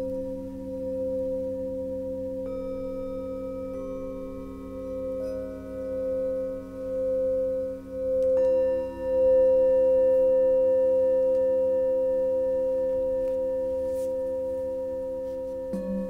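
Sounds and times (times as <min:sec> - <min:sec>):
singing bowls ringing: 0:00.0 - 0:16.0.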